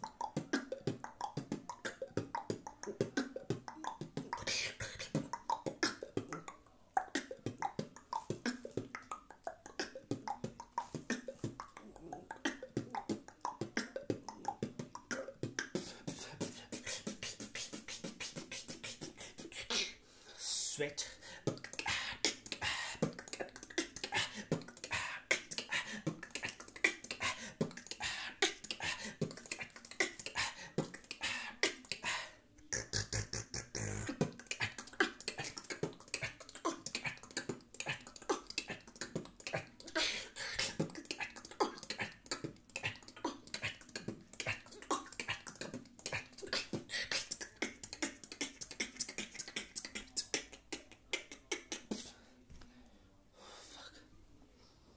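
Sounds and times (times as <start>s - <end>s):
vocal beatboxing: 0.0s - 52.2s.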